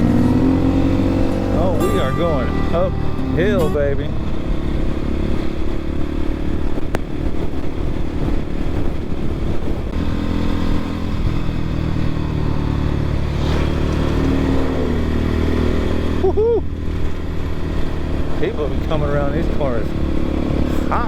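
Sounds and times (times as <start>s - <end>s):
dirt bike engine climbing uphill: 0.0s - 21.0s.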